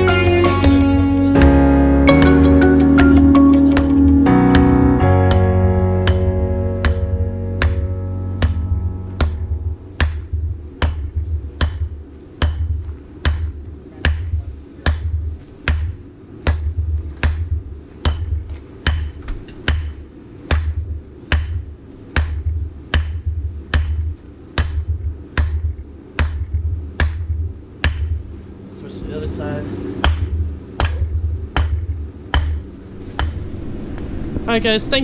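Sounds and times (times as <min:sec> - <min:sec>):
hammer striking hot steel: 0:01.4 - 0:28.3, 0:30.0 - 0:33.6.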